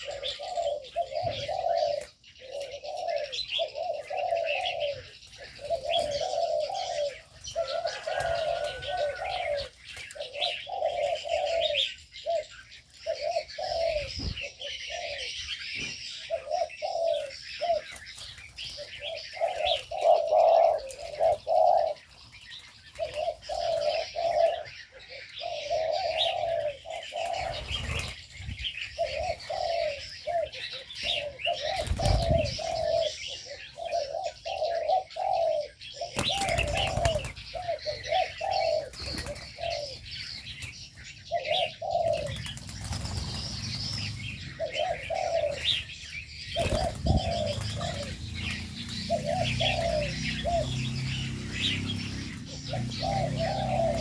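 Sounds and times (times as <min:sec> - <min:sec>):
doves cooing: 0:00.0 - 0:54.0
small birds chirping and twittering: 0:00.0 - 0:54.0.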